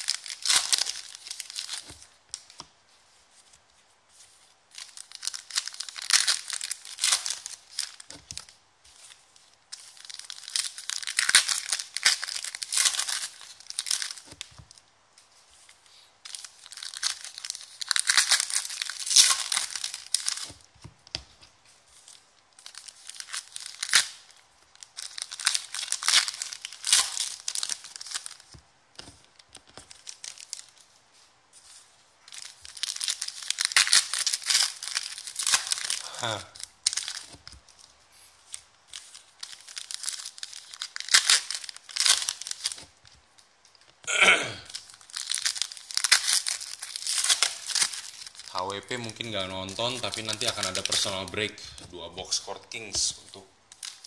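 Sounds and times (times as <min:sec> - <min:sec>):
foil wrappers tearing and crinkling: 0:00.0 - 0:03.6, 0:04.2 - 0:14.8, 0:15.5 - 0:54.0.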